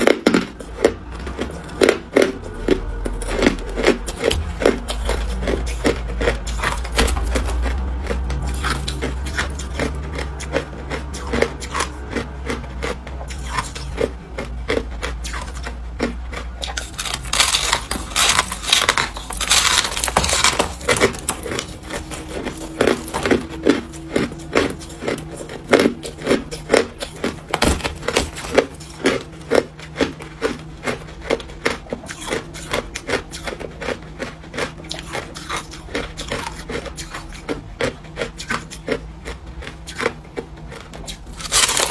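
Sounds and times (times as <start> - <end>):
ice being crunched and chewed: 0.0 - 41.9.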